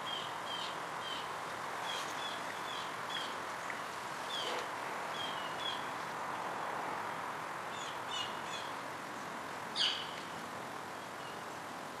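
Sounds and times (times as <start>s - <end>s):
outdoor ambient hiss: 0.0s - 12.0s.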